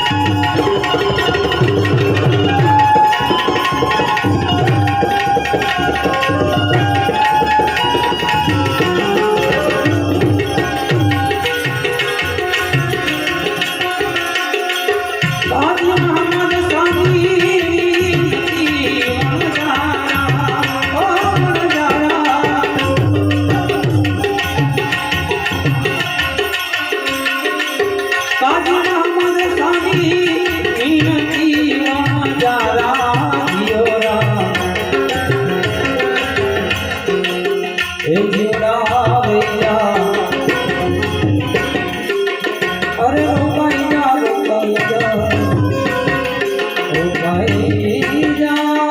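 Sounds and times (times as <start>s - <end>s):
tabla playing steady rhythm: 0.0s - 48.9s.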